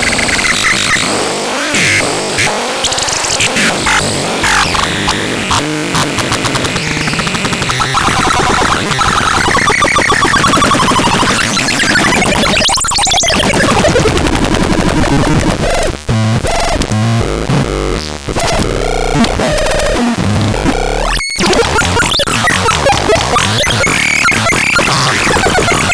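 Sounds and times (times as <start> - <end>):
harsh electronic synth noise: 0.0 - 25.9.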